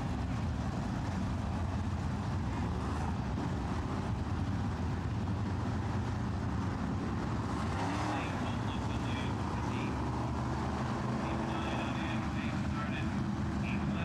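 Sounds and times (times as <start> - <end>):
racing car engines: 0.0 - 14.0.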